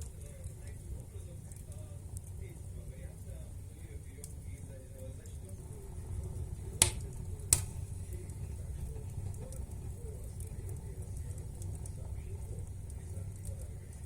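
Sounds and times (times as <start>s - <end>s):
fire popping: 0.0s - 14.0s
firewood crackling: 0.0s - 14.0s
low steady rumble: 0.0s - 14.0s.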